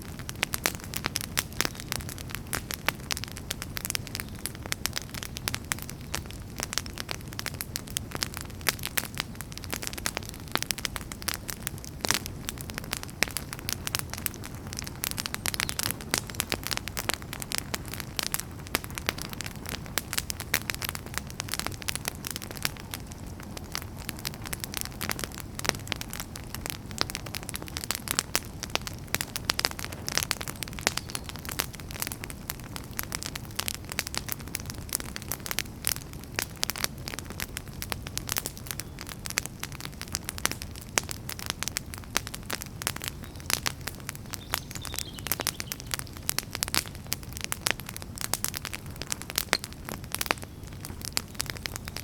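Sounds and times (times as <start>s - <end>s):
low rumble and hiss of flames: 0.0s - 52.0s
wood fire crackling and popping: 0.0s - 52.0s.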